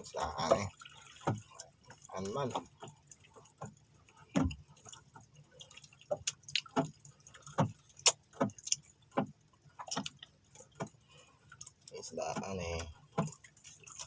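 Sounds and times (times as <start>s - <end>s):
sharp clicks and knocks: 1.2s - 5.2s, 6.1s - 11.0s, 11.6s - 14.0s.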